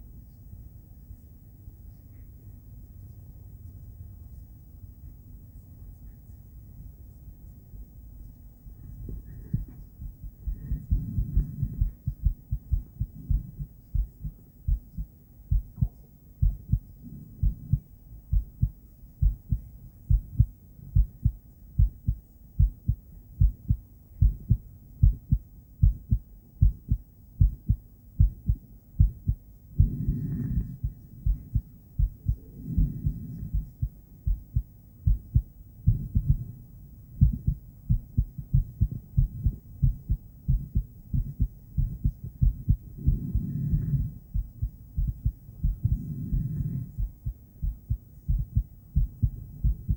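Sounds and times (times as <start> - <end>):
heartbeat through ultrasound device: 8.8 - 36.6, 37.2 - 49.9.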